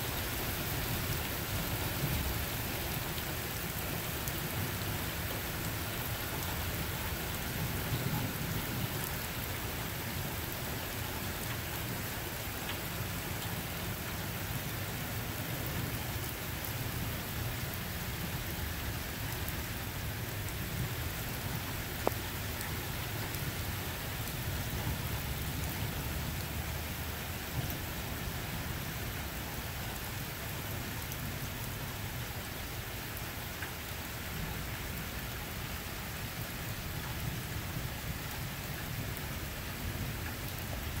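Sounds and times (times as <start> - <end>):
rain hissing: 0.0 - 41.0.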